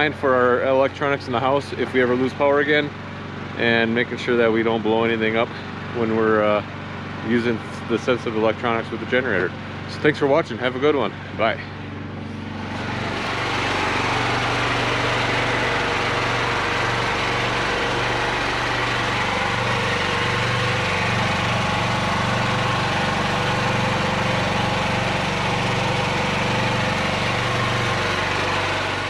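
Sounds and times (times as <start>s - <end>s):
generator engine drone: 0.0s - 29.0s.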